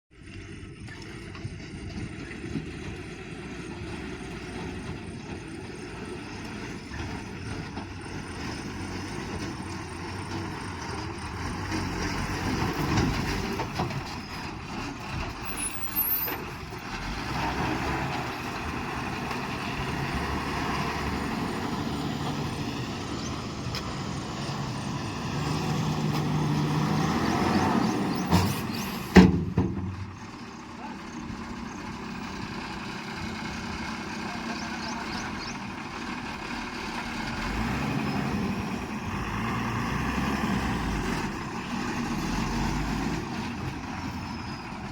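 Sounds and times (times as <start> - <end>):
diesel engine revving: 0.2 - 44.9.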